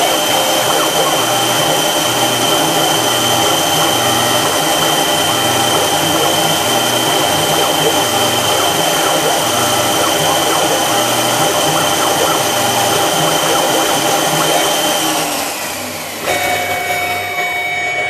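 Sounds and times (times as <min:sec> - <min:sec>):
drill spindle whine: 0:00.0 - 0:18.0.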